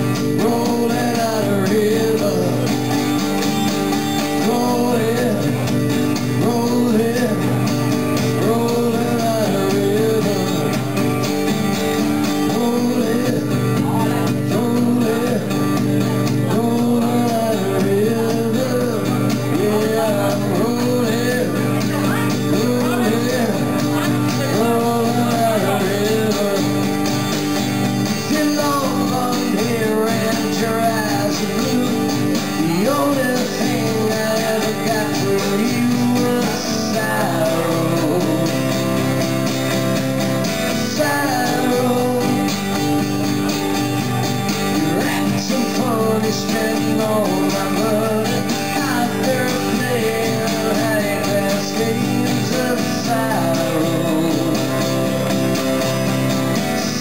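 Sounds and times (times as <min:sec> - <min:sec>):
man singing into microphone: 0:00.0 - 0:03.4, 0:04.0 - 0:11.0, 0:12.3 - 0:27.0, 0:28.0 - 0:39.2, 0:40.6 - 0:43.0, 0:44.7 - 0:55.3, 0:56.4 - 0:57.0
acoustic guitar: 0:00.0 - 0:57.0.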